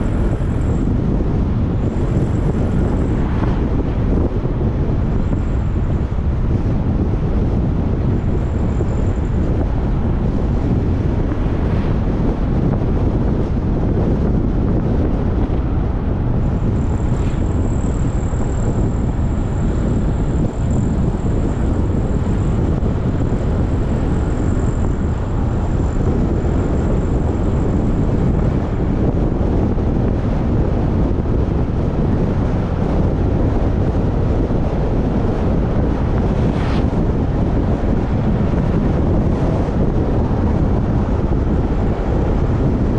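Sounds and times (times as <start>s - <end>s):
vehicle rumble on paved road: 0.0s - 42.9s
wind buffeting microphone: 0.0s - 42.9s.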